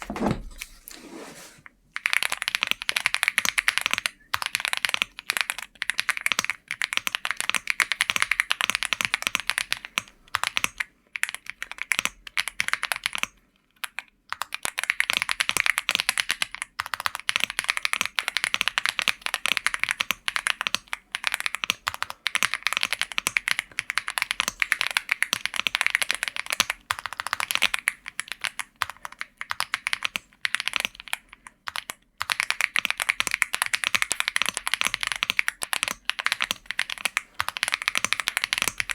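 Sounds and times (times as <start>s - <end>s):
fast keyboard typing: 2.0s - 38.9s.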